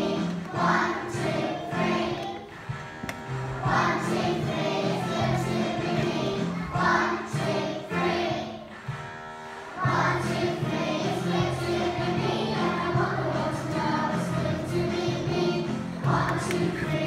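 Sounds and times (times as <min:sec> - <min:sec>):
children singing: 0:00.0 - 0:02.7, 0:03.4 - 0:08.7, 0:09.7 - 0:17.0
piano accompaniment: 0:00.0 - 0:17.0.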